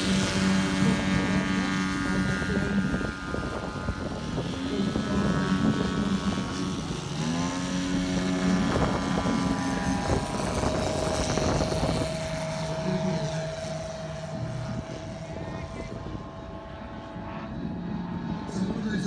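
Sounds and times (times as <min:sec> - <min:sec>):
higher steady engine note: 0:00.0 - 0:19.0
model plane engines running: 0:00.0 - 0:19.0.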